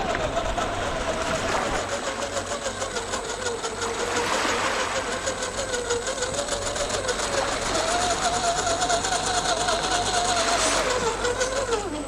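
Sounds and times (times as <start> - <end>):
electric motor and gears whining: 0.0 - 12.0.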